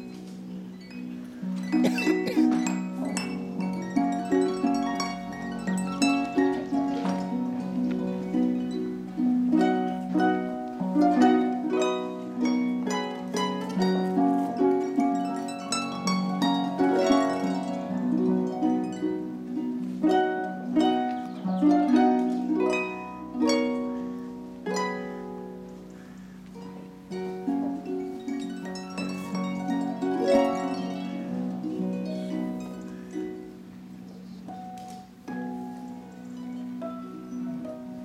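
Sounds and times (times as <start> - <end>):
harp playing: 0.0 - 38.0.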